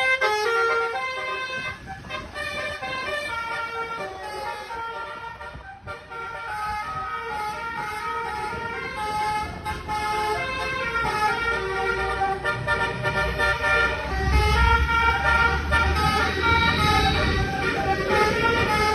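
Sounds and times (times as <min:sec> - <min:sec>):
truck multi-tone horns: 0:00.0 - 0:18.9.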